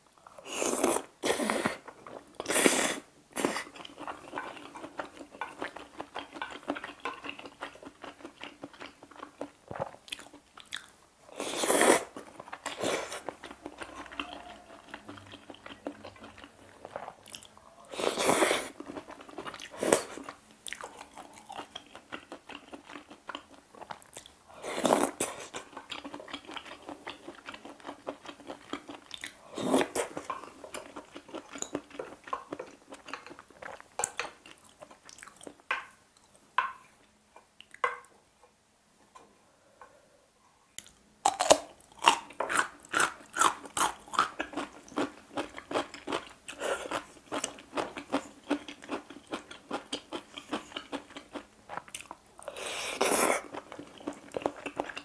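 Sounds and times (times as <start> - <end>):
chewing food: 3.4 - 36.4, 40.8 - 55.0.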